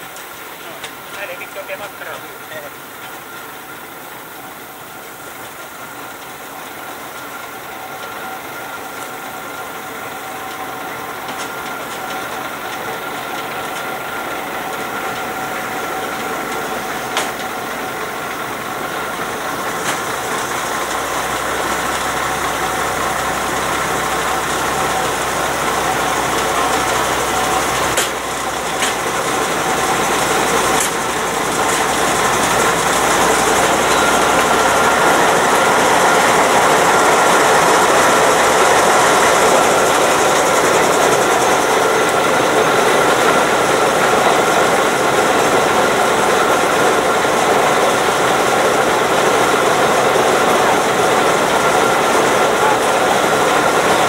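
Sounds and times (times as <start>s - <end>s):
diesel locomotive engine whine: 0.0s - 54.0s
wheels clicking on rails: 0.0s - 54.0s.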